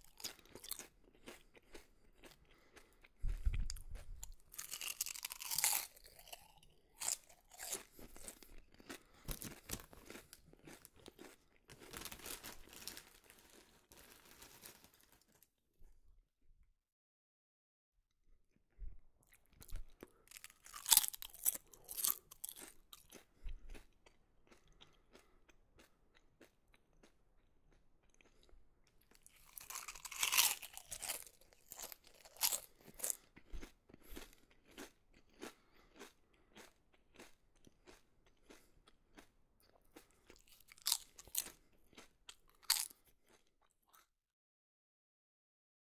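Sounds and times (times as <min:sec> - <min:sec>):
potato chips being chewed: 0:00.0 - 0:15.5, 0:19.2 - 0:44.1.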